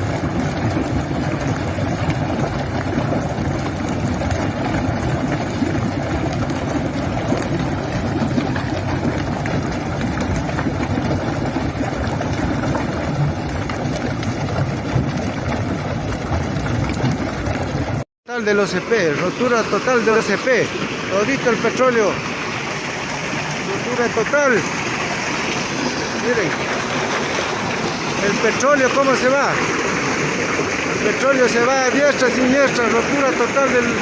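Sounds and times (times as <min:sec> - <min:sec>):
oil gushing under pressure: 0:00.0 - 0:34.0.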